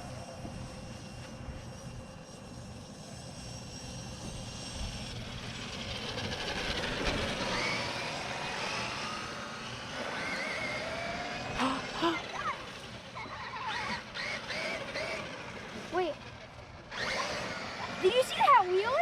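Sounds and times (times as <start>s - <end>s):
toy car electric motor whining: 0.0s - 19.0s.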